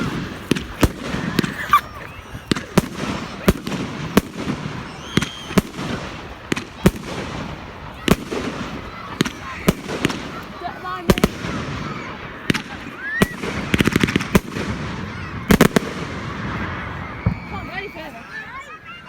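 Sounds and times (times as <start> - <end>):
fireworks bangs: 0.0 - 18.2.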